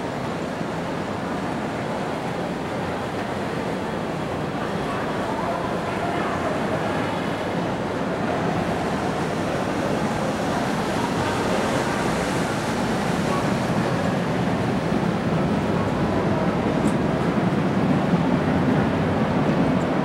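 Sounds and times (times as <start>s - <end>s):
echoing atrium background noise: 0.0s - 20.0s.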